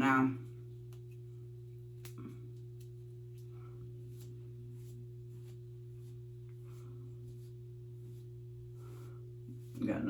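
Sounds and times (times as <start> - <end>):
hair rustling: 0.0 - 10.0
low electrical hum: 0.0 - 10.0.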